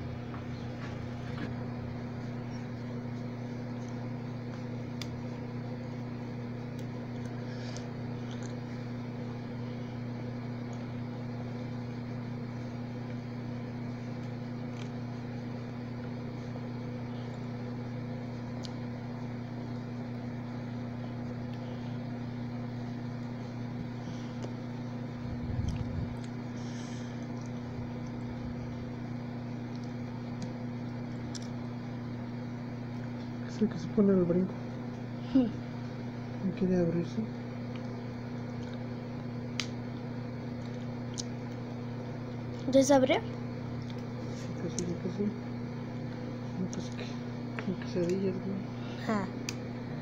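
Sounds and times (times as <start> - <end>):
low electric hum: 0.0 - 50.0.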